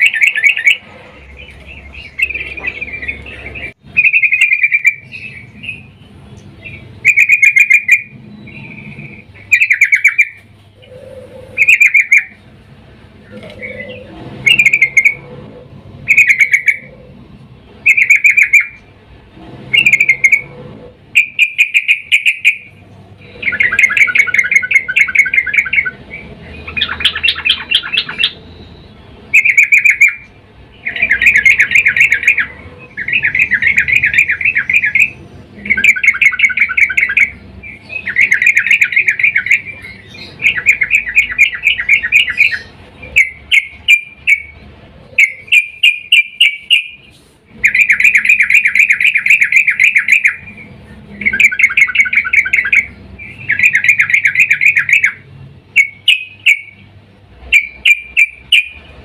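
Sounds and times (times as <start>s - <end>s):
bird chattering calls: 0.0s - 18.9s, 19.7s - 59.0s.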